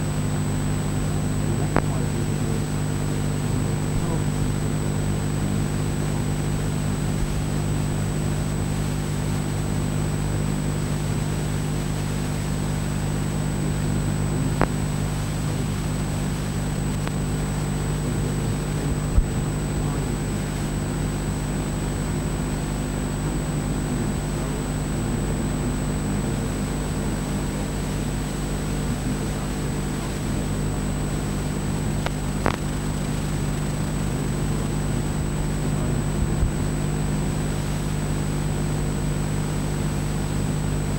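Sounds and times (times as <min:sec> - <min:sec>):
high-pitched whine: 0:00.0 - 0:39.0
low hum with hiss: 0:00.0 - 0:40.9.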